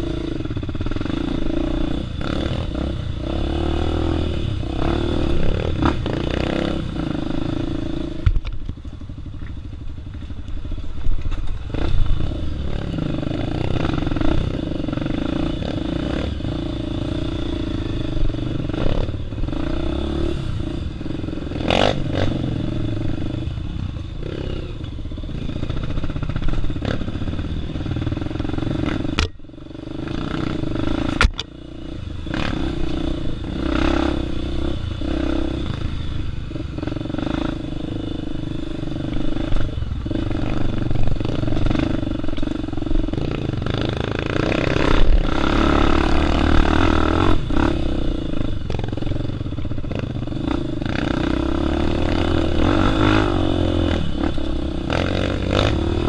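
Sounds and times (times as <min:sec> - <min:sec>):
motorbike engine revving: 0:00.0 - 0:08.5, 0:11.6 - 0:56.0.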